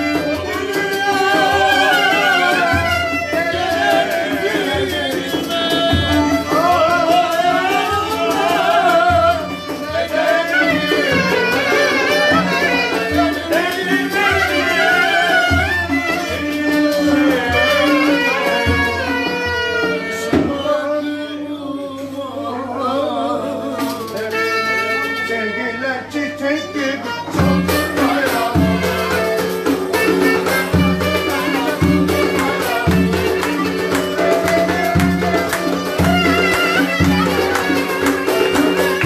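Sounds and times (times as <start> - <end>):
clarinet melody: 0.0 - 20.4, 24.2 - 39.0
hand drum beat: 0.0 - 20.9, 27.3 - 39.0
violin: 0.0 - 21.2, 23.8 - 39.0.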